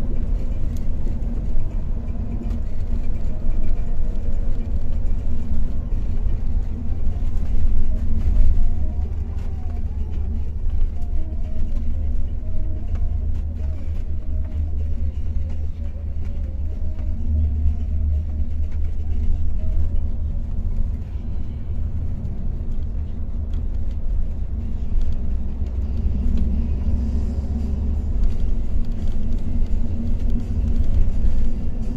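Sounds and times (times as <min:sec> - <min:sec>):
engine and road noise drone: 0:00.0 - 0:31.9.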